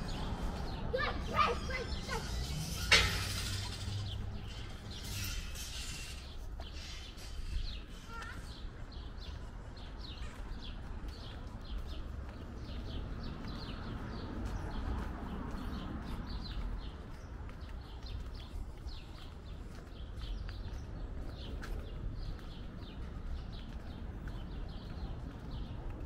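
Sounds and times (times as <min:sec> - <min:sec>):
low street rumble: 0:00.0 - 0:26.0.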